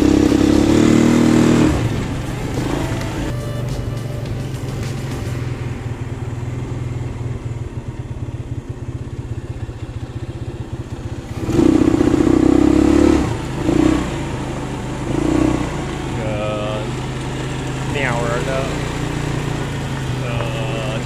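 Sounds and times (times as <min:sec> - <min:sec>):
motorbike engine rumbling: 0:00.0 - 0:21.0.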